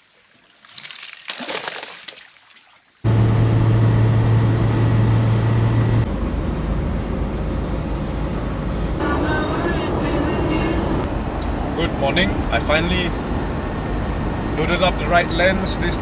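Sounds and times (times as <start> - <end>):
strong low hum: 3.0 - 16.0
vehicle road and engine noise: 3.0 - 16.0.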